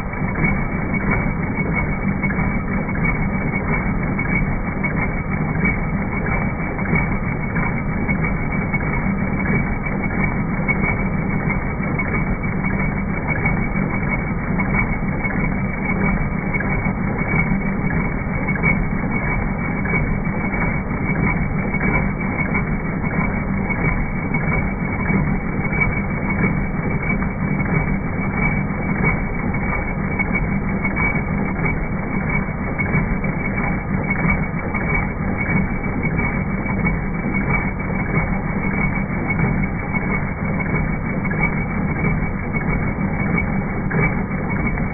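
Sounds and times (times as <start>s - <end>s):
embroidery machine running: 0.0s - 44.9s.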